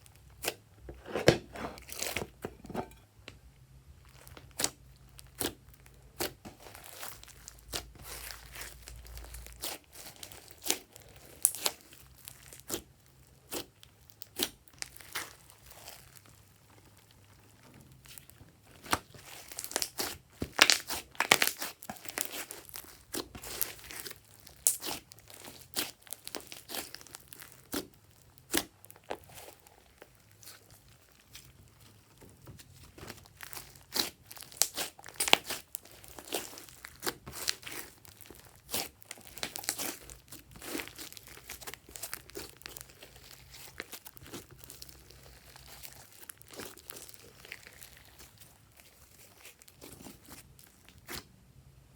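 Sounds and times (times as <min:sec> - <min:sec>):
slime squished by hand: 0:04.0 - 0:51.4.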